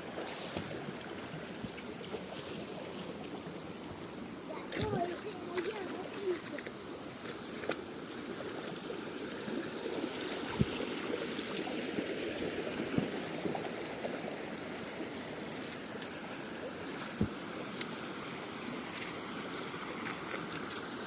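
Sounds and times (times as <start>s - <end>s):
waterfall and stream flowing: 0.0s - 21.0s.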